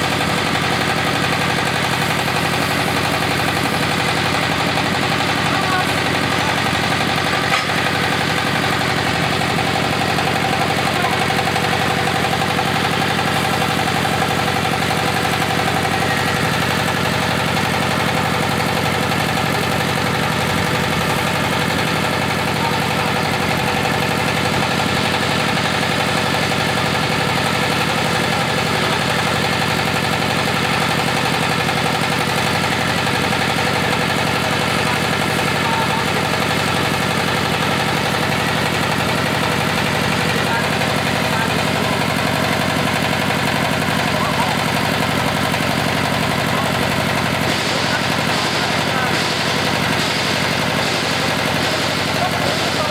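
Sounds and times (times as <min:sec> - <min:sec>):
drilling rig engine running: 0:00.0 - 0:52.9.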